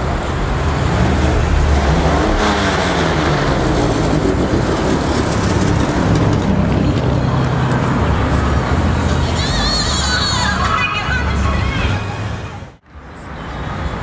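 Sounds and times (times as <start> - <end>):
car engines rumbling past: 0.0 - 14.0.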